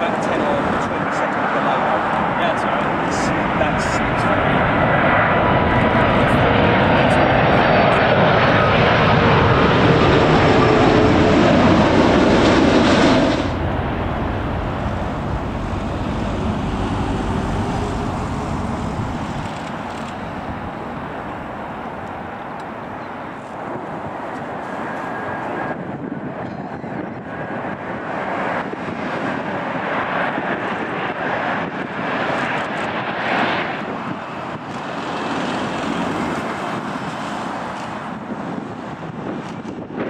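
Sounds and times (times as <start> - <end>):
jet engine roar: 0.0 - 40.0.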